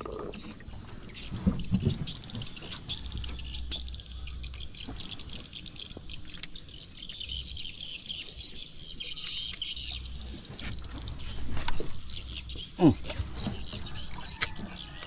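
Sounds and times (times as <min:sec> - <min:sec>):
birds chirping: 0:00.0 - 0:15.0
insects trilling: 0:00.0 - 0:15.0.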